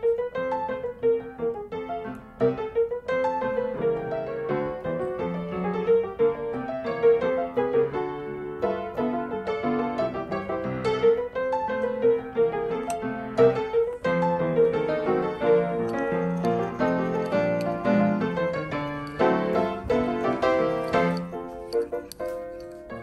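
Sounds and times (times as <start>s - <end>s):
piano melody: 0.0s - 23.0s.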